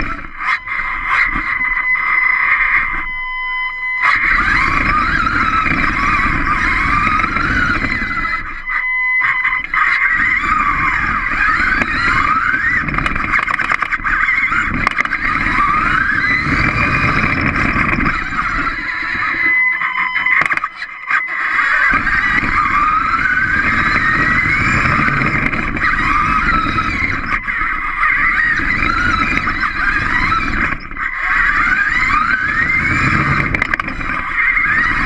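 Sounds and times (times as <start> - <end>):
steady high tone: 0.0 - 13.3, 14.2 - 30.1
electric motors whining: 0.0 - 35.0
wheels rolling on hard floor: 4.1 - 8.5, 9.3 - 20.7, 21.7 - 35.0.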